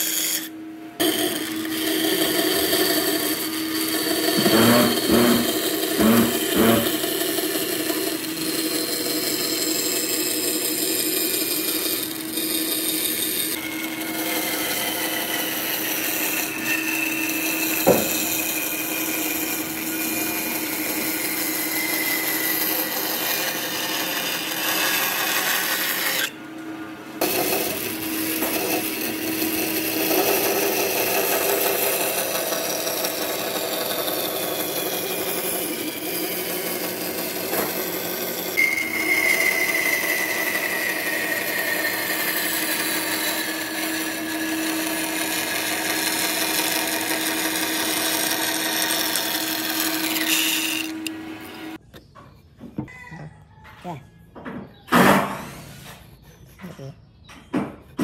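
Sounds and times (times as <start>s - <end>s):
band saw cutting wood: 0.0s - 51.8s.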